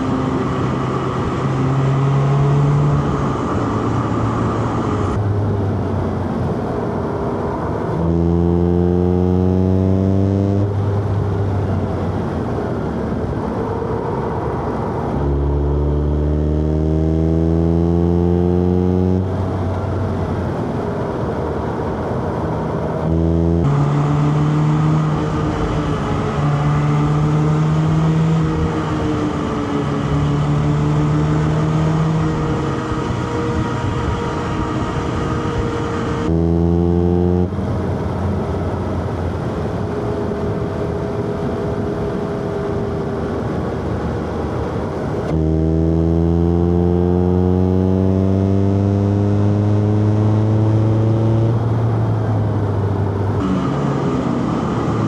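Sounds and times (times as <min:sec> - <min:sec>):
car engine revving: 0:00.0 - 0:55.0
road noise: 0:00.0 - 0:55.0.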